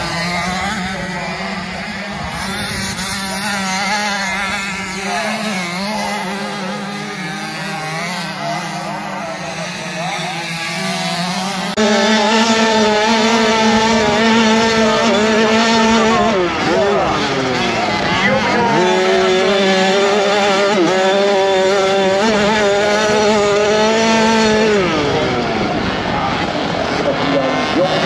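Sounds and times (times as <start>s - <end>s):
motocross bikes revving: 0.0s - 28.0s
motorbike engine at high revs: 0.0s - 28.0s.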